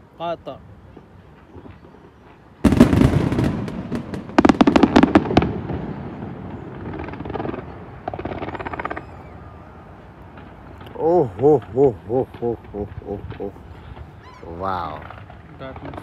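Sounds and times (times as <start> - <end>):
fireworks crackling: 1.2 - 16.0
fireworks bangs: 1.5 - 16.0.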